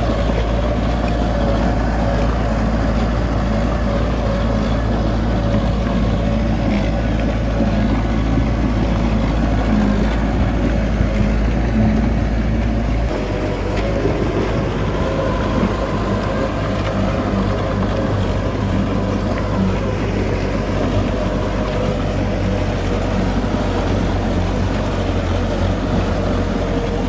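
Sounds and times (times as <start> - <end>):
heavy diesel engine rumbling: 0.0 - 27.0.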